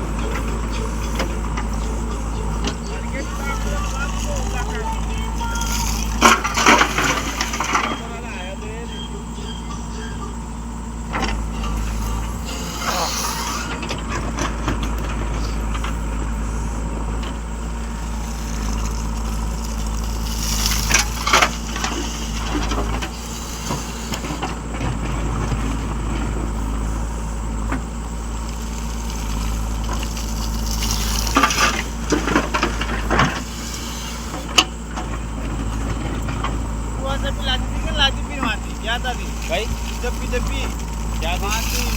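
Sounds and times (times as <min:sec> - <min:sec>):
clattering knocks and rattles: 0:00.0 - 0:08.3, 0:10.8 - 0:41.9
heavy vehicle engine running: 0:00.0 - 0:41.9.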